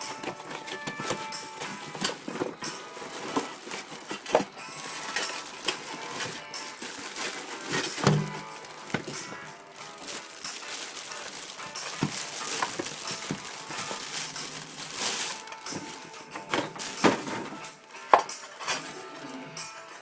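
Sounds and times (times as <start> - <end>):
plastic parts clicking and knocking: 0.0 - 19.3
packaging rustling: 0.0 - 20.0.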